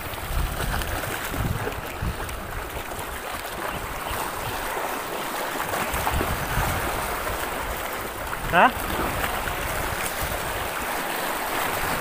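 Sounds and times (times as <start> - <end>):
water lapping against boat: 0.0 - 12.0.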